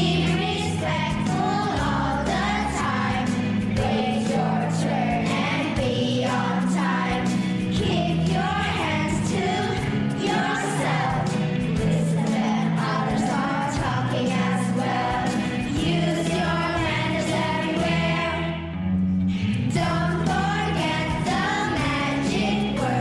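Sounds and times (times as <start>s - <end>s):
backing track with bass: 0.0s - 23.0s
group of voices singing: 0.0s - 23.0s.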